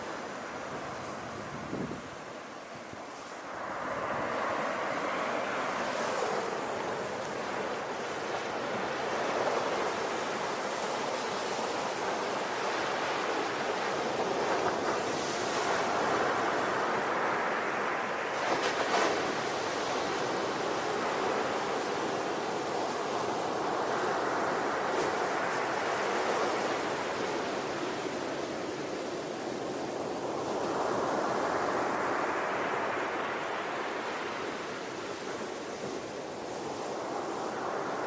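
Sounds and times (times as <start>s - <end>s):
sea waves breaking on shore: 0.0s - 38.0s.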